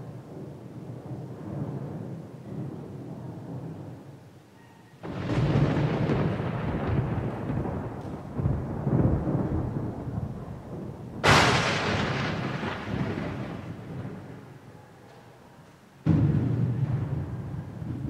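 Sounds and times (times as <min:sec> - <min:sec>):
thunder crack: 0:00.0 - 0:04.1, 0:05.0 - 0:14.6, 0:16.0 - 0:18.0
thunder rumbling: 0:00.0 - 0:04.4, 0:05.0 - 0:14.7, 0:16.0 - 0:18.0.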